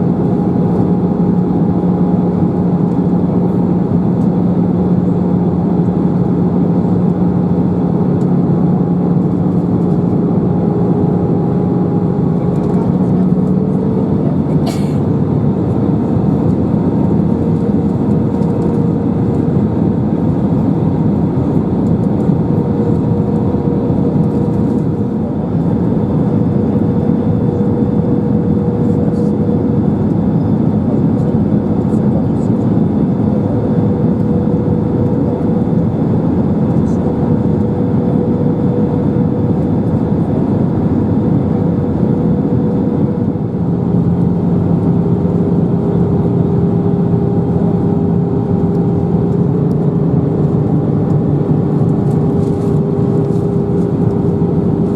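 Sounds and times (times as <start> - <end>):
constant hum: 0.0 - 54.9
jet engine drone in cabin: 0.0 - 54.9.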